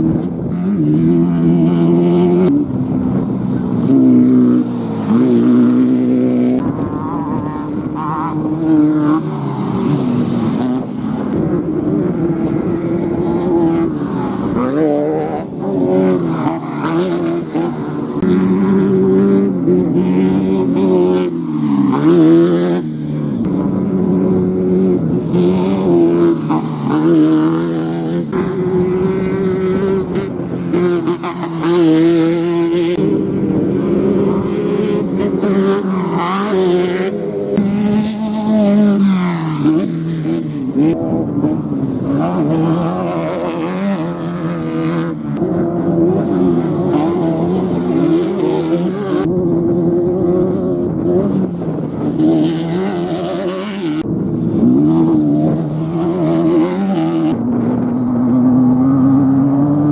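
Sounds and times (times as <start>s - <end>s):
race vehicle engines running hard: 0.0s - 59.9s.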